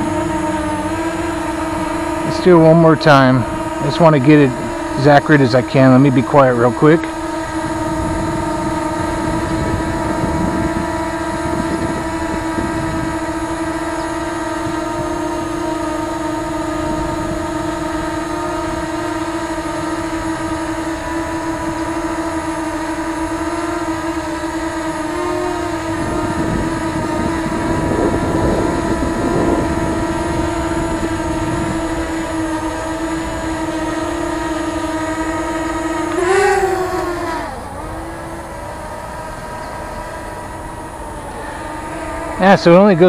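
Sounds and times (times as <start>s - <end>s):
drone propeller buzz: 0.0s - 43.0s.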